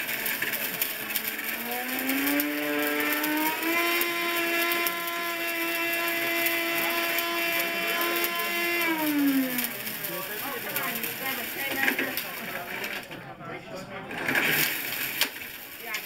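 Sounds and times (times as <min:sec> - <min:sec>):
blender motor running: 0:00.0 - 0:13.0, 0:14.1 - 0:16.0.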